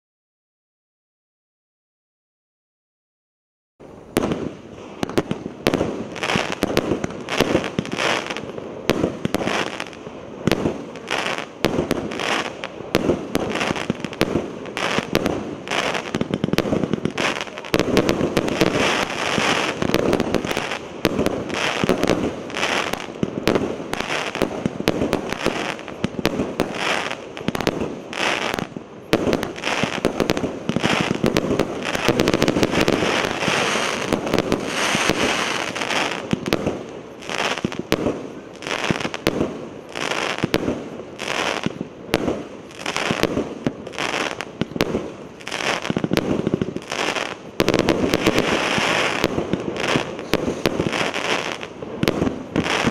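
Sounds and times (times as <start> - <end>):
fireworks aerial bursts: 3.8 - 52.9.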